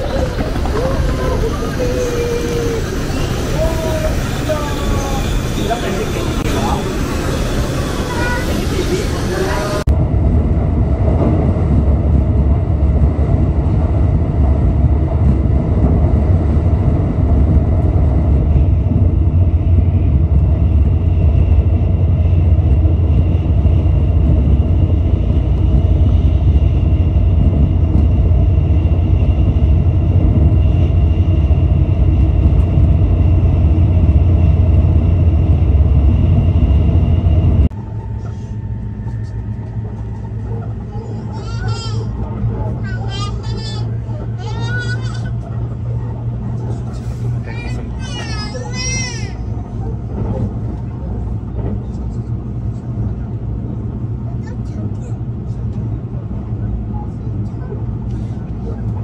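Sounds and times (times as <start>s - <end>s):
vehicle rumbling: 0.0s - 59.0s.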